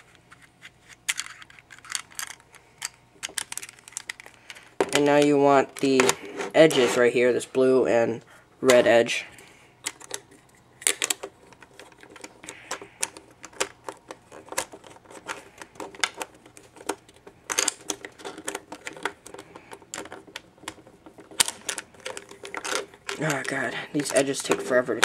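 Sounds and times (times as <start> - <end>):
plastic puzzle pieces clicking: 0.3 - 6.2, 9.8 - 25.0.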